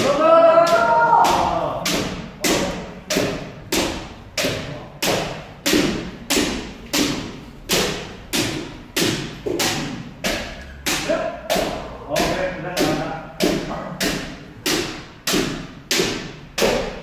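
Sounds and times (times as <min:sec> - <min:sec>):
sharp thuds with echo: 0:00.0 - 0:17.0.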